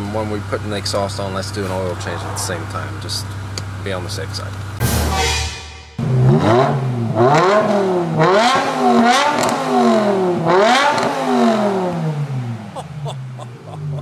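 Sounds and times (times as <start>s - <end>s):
car engine revving: 0.3s - 5.1s, 6.0s - 14.0s.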